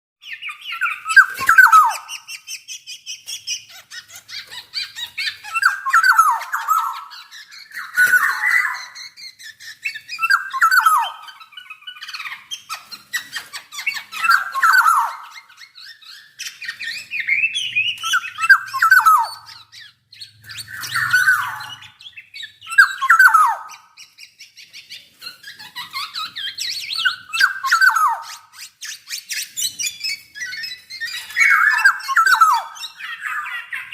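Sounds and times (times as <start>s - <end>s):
bird singing downward phrases: 0.2s - 33.9s
high bird twittering: 0.2s - 33.9s.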